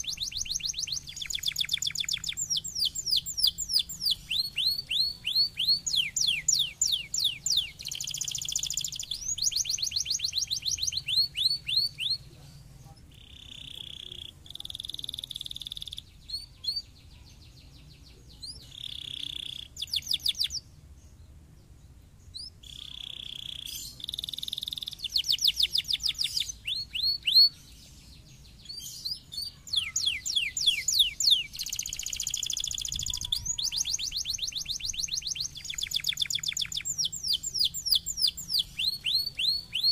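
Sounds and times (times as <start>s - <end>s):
canary singing: 0.0s - 20.7s, 22.2s - 39.9s.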